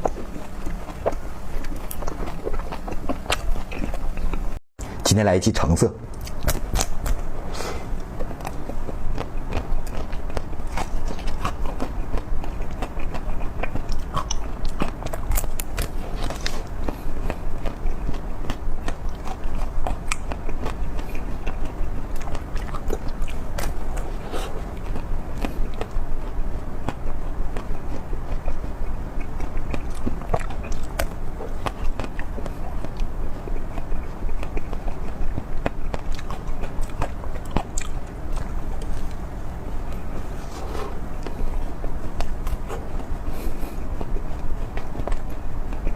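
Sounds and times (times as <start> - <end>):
person chewing food: 0.0 - 4.6, 6.1 - 45.9
low steady rumble: 0.0 - 45.9.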